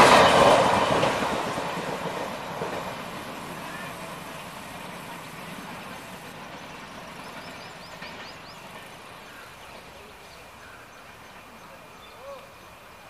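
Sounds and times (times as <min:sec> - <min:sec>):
distant train rumble: 0:00.0 - 0:13.0.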